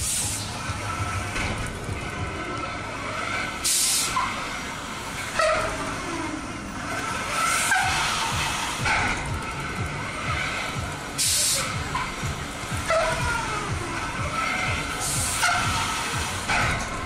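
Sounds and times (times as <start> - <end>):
fairground ride rumble: 0.0 - 17.0.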